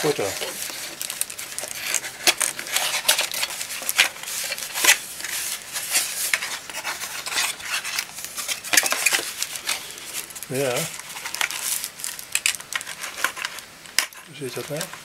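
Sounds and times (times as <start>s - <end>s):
cardboard scraping and rustling: 0.0s - 15.0s.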